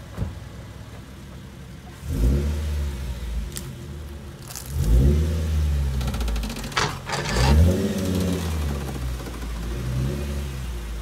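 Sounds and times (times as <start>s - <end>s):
car engine revving: 1.9s - 11.0s.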